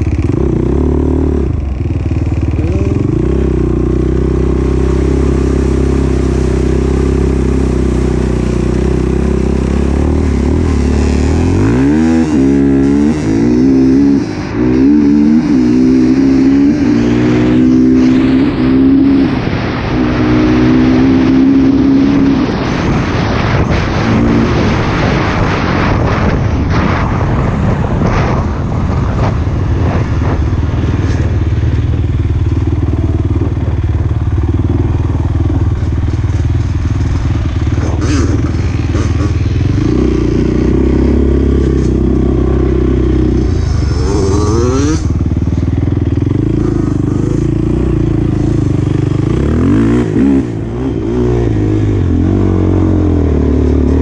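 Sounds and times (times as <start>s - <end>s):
quad bike engine revving: 0.0s - 27.1s, 29.1s - 54.0s.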